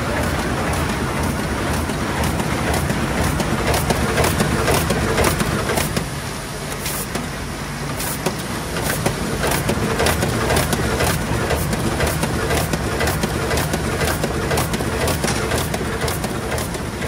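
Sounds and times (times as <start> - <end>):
book-sewing machine clattering: 0.0 - 6.1, 8.0 - 17.0.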